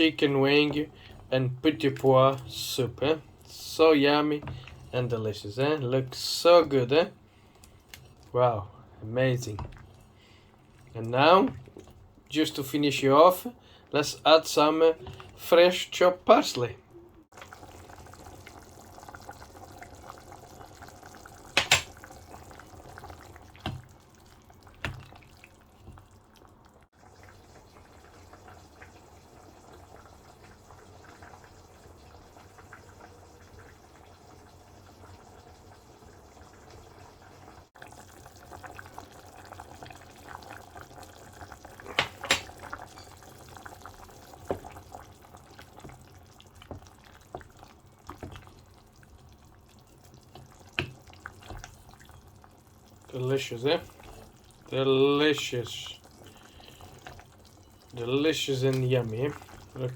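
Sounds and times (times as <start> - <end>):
soup bubbling in a pot: 0.0 - 59.9.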